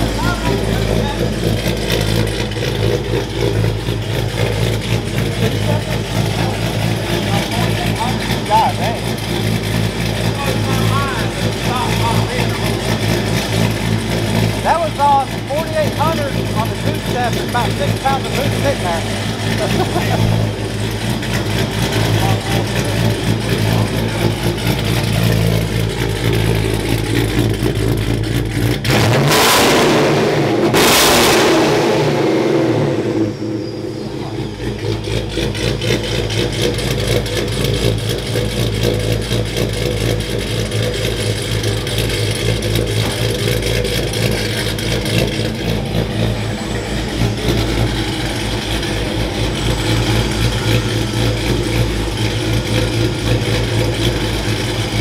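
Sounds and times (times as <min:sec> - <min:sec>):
vee-eight engine idling and revving: 0:00.0 - 0:55.0.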